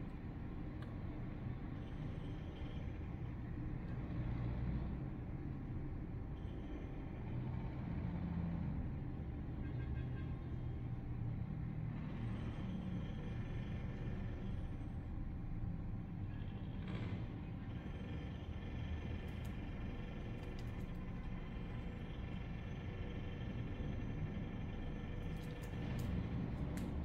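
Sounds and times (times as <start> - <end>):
low rumble of traffic: 0.0 - 27.0.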